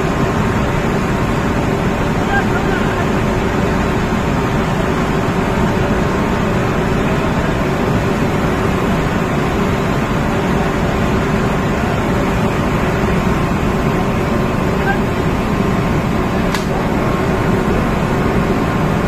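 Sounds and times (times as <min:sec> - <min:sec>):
machinery drone: 0:00.0 - 0:19.0.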